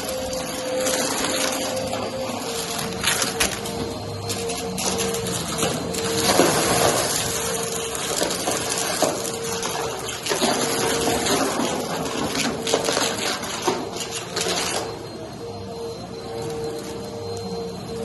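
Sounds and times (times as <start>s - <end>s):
vacuum cleaner running: 0.0s - 18.0s
debris clicking and rattling: 0.1s - 14.9s.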